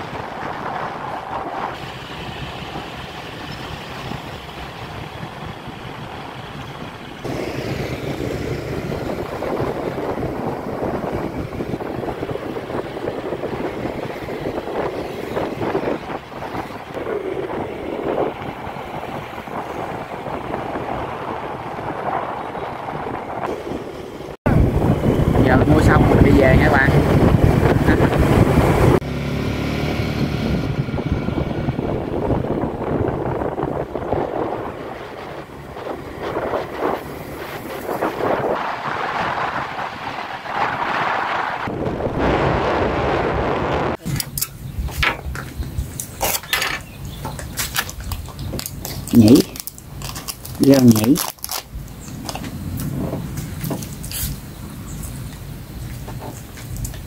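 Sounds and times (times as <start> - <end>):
motorbike road noise: 0.0 - 57.0
wind rushing over microphone: 0.0 - 57.0.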